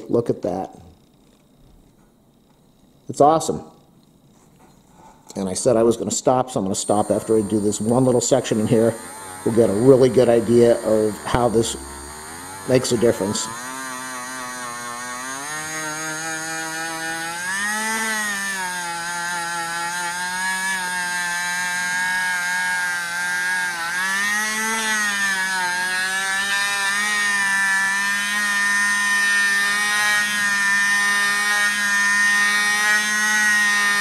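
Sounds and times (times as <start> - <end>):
rotary tool whining: 0.0 - 34.0.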